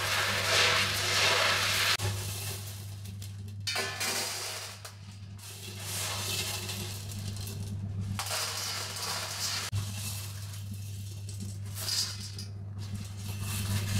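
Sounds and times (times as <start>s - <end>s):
clay pebbles clattering in metal colander: 0.0s - 13.9s.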